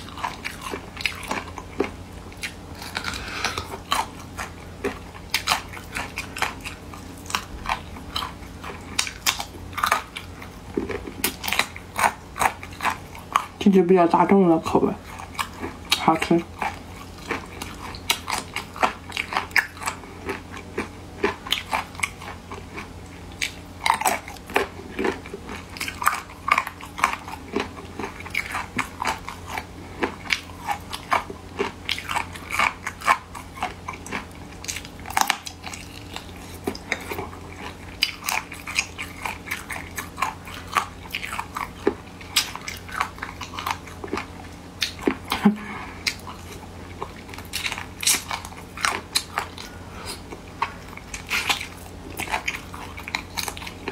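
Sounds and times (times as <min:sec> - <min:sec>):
chewing and crunching: 0:00.0 - 0:53.9.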